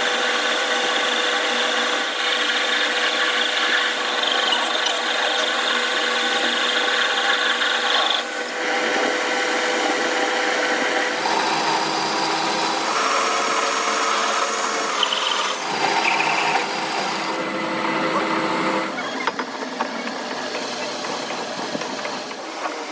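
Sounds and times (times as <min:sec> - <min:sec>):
power tools working metal: 0:00.0 - 0:22.9.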